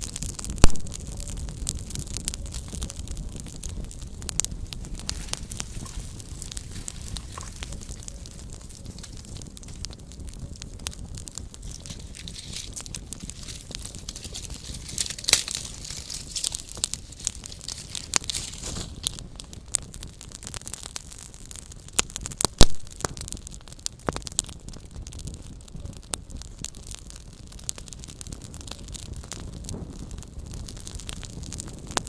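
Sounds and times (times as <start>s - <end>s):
campfire crackling: 0.0s - 32.0s
fire pops and snaps: 0.0s - 32.0s
hissing flare of fire: 0.0s - 32.0s.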